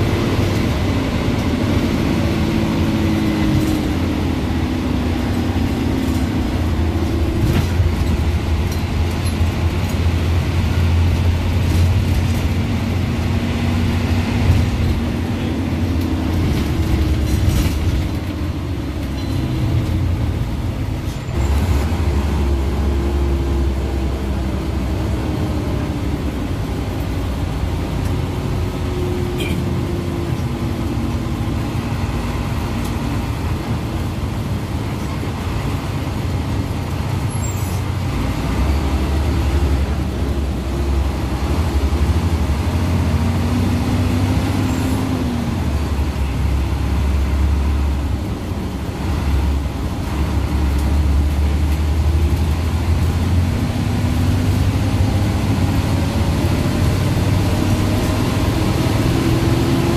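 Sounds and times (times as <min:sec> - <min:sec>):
bus engine: 0:00.0 - 0:59.9
bus road rumble: 0:00.0 - 0:59.9.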